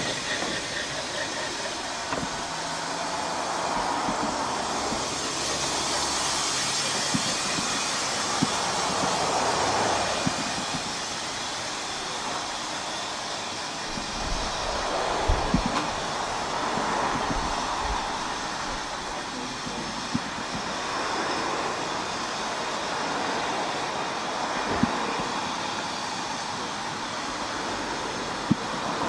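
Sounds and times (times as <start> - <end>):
steam hissing from locomotive: 0.0 - 29.0.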